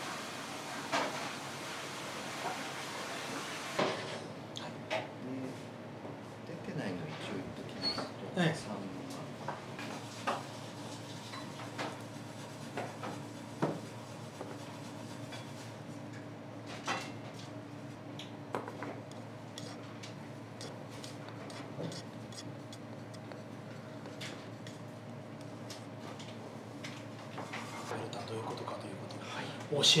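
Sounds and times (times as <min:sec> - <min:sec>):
steady low hum: 0:04.1 - 0:30.0.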